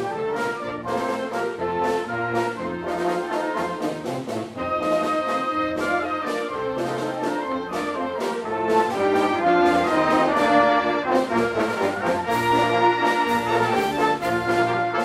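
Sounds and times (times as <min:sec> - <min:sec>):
concert wind band playing: 0:00.0 - 0:15.0.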